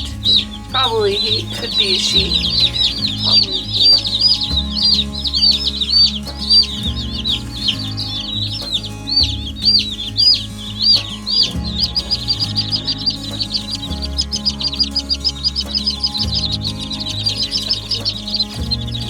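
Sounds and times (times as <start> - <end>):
background music with low notes: 0.0 - 19.0
chicks peeping: 0.0 - 19.0.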